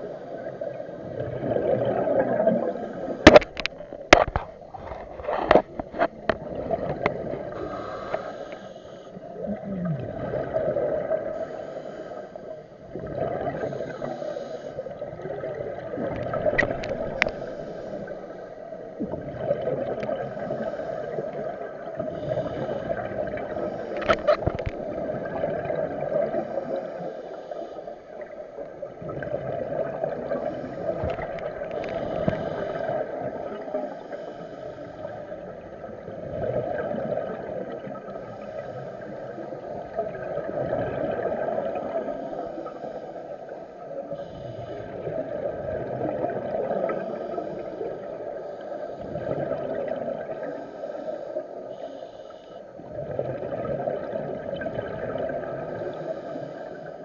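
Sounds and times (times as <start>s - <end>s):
muffled underwater rushing: 0.0s - 57.0s
scuba regulator breathing and bubbles: 0.0s - 57.0s.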